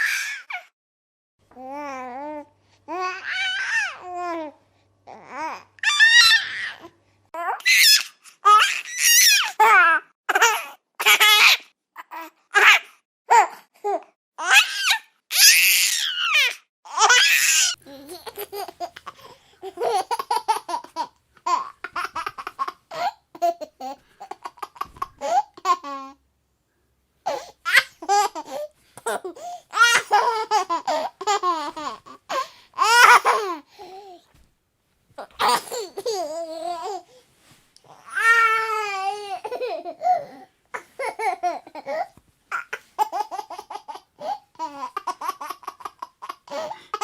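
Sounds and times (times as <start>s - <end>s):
baby laughing and babbling: 1.5s - 15.0s, 16.4s - 26.2s, 27.3s - 34.2s, 35.2s - 37.2s, 37.9s - 47.0s.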